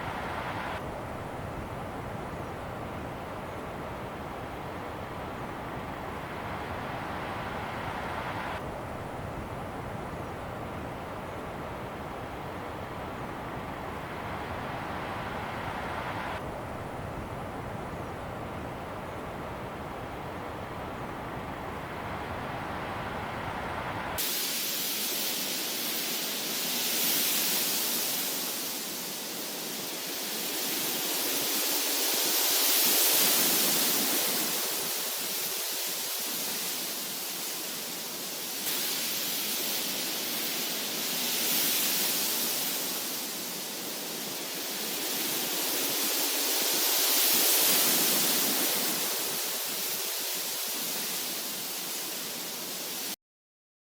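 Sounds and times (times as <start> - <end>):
white noise hiss: 0.0 - 53.2.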